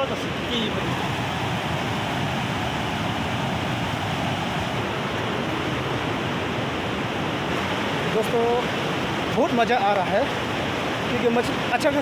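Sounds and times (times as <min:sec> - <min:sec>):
river rapids rushing over boulders: 0:00.0 - 0:12.0.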